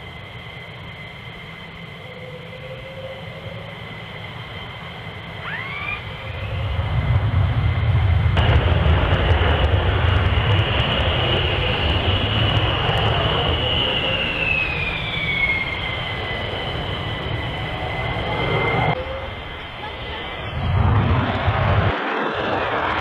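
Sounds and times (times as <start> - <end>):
jet aircraft rushing on runway: 0.0 - 23.0
jet engines whining: 0.0 - 23.0.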